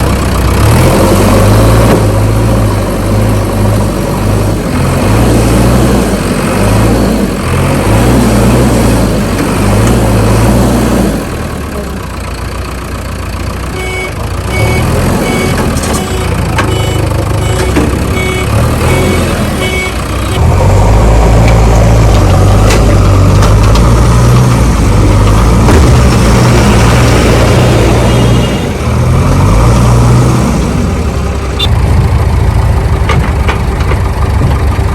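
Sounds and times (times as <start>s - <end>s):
heavy diesel engines working: 0.0s - 34.9s.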